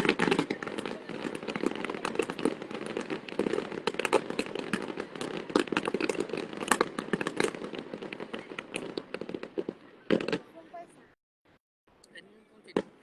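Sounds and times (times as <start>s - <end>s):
fireworks crackling: 0.0s - 11.1s.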